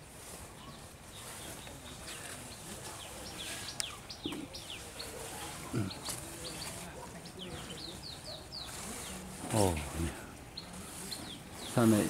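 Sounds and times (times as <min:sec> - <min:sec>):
faint outdoor hiss: 0:00.0 - 0:12.0
small birds chirping: 0:00.0 - 0:12.0.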